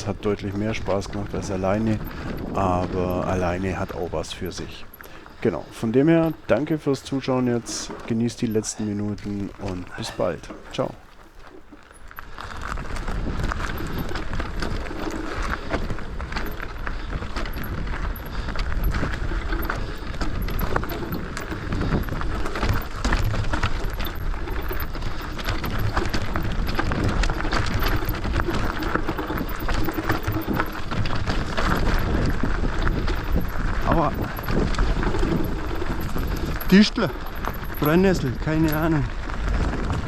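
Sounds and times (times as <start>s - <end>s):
bike rattling over bumps: 0.0s - 40.0s
tyres crunching over dirt and stones: 0.0s - 40.0s.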